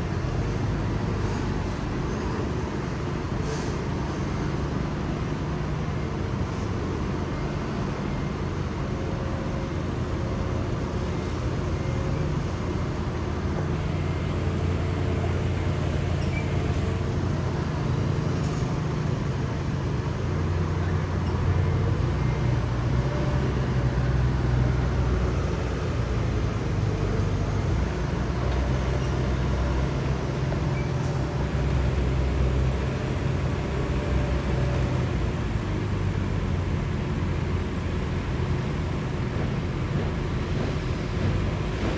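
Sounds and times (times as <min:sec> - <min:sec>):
low rumble of heavy engines: 0:00.0 - 0:41.9.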